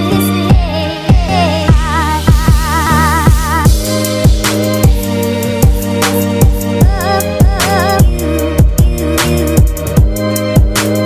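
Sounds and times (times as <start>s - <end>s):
electronic drum beat: 0.5s - 11.0s.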